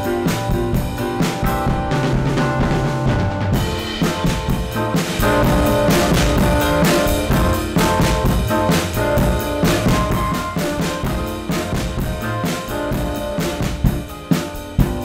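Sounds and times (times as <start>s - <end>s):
distorted drums: 0.0s - 15.0s
held pitched notes: 0.0s - 15.0s.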